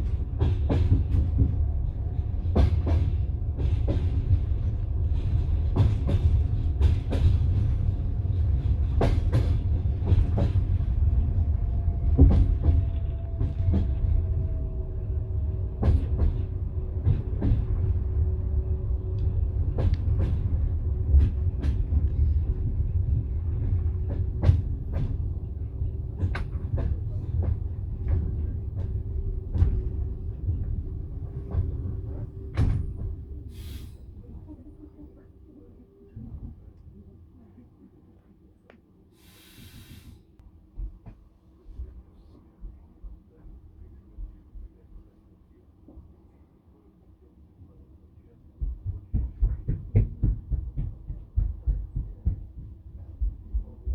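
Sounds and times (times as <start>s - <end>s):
train carriage rumbling on rails: 0.0s - 38.6s, 39.2s - 53.9s.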